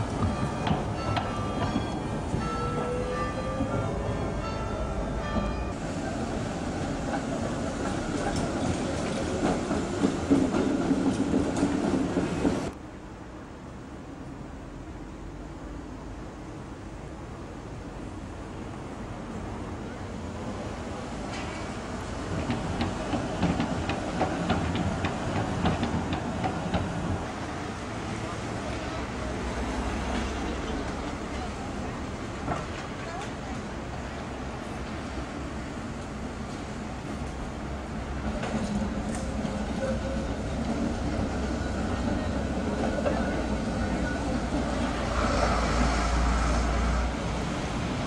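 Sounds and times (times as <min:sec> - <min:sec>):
tram wheels clicking: 0:00.0 - 0:12.8, 0:21.1 - 0:48.0
tram rolling on rails: 0:00.0 - 0:48.0.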